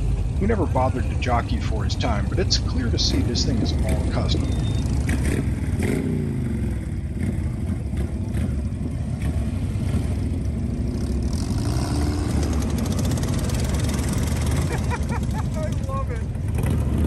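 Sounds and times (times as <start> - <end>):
tracked vehicle engine droning: 0.0 - 17.0.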